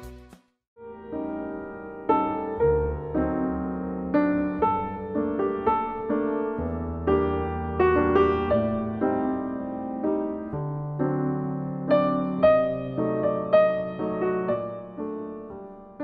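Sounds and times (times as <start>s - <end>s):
slow soft piano music: 0.8s - 16.0s.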